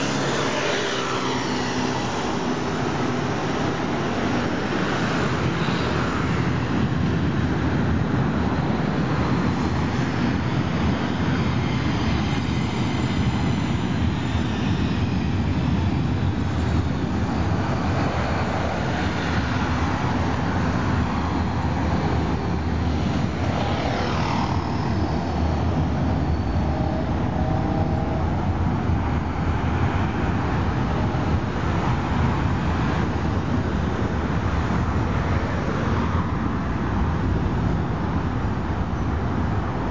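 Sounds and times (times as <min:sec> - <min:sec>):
train rumbling over overpass: 0:00.0 - 0:14.2, 0:15.0 - 0:39.9
street traffic: 0:00.0 - 0:39.9.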